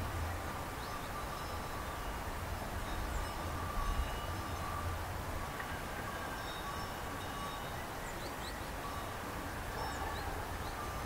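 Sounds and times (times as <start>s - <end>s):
distant sheep bells ringing: 0.8s - 5.0s, 5.7s - 11.0s.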